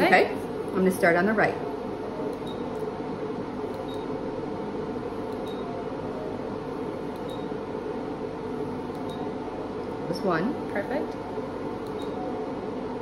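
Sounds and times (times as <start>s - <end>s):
machine fan hum: 0.0s - 13.0s.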